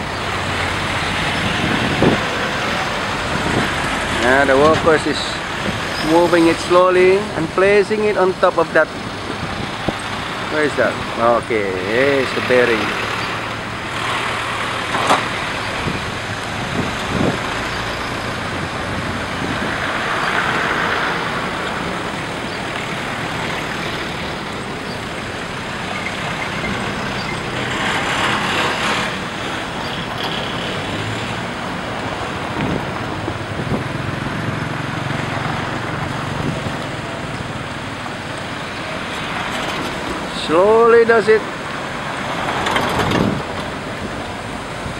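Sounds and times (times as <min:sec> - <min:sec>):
heavy diesel engines running: 0:00.0 - 0:44.9
road traffic passing: 0:00.0 - 0:44.9.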